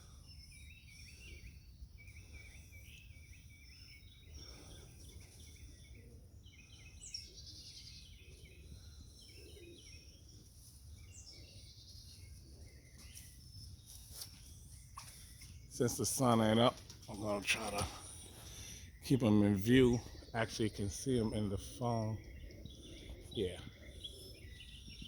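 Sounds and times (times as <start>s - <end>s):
small birds chirping and singing: 0.0s - 25.0s.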